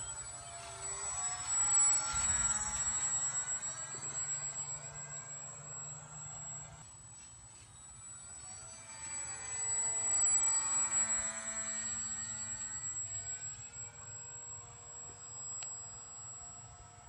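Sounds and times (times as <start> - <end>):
model plane motor and propeller hum: 0.0 - 17.0.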